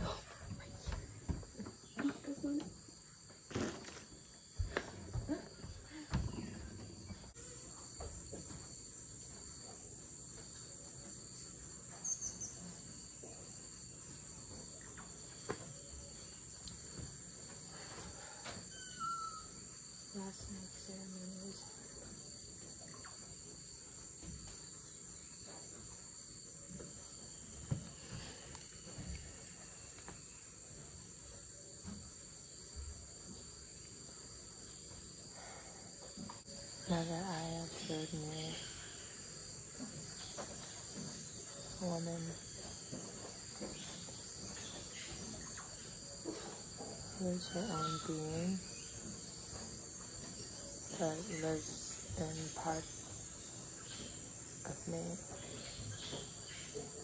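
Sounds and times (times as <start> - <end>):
forest insects trilling: 0.0 - 57.0.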